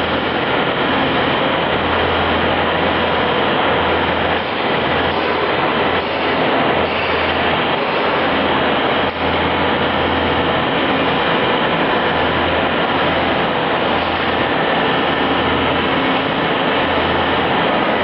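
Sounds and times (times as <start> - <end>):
cnc machine running: 0.0 - 18.0.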